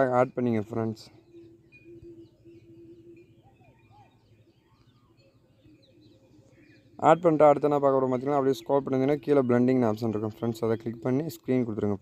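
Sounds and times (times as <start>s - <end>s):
birds chirping: 0.0s - 12.0s
low steady hum: 0.0s - 12.0s.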